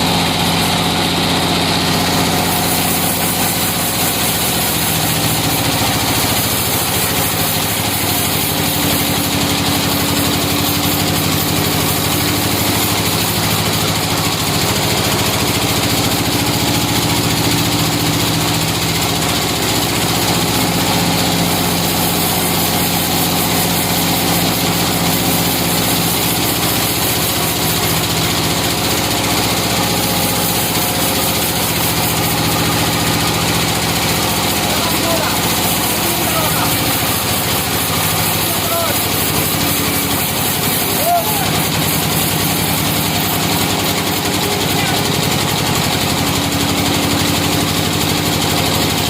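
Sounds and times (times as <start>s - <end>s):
sawmill engine running: 0.0s - 49.0s.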